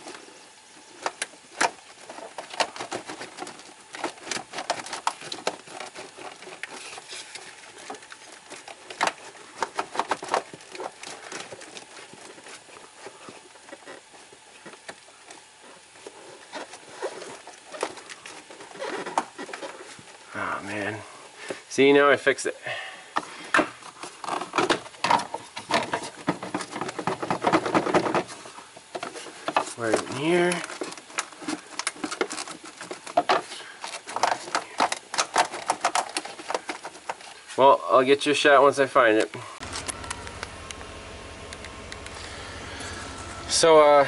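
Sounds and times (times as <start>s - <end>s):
rustling of wiring: 0.0s - 22.4s, 23.1s - 44.0s.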